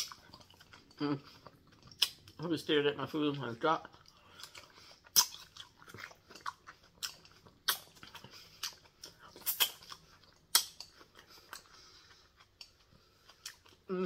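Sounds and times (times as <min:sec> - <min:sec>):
person chewing wet mouth smacks: 0:00.0 - 0:02.4, 0:03.9 - 0:13.9.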